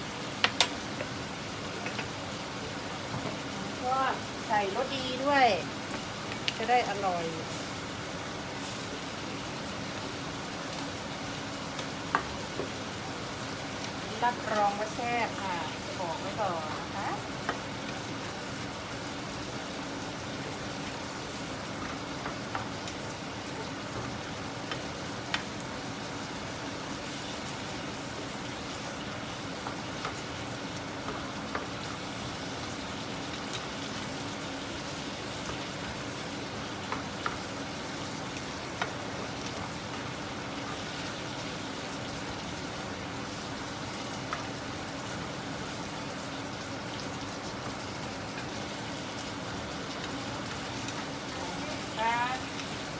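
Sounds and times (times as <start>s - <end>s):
meat sizzling in a wok: 0.0s - 52.9s.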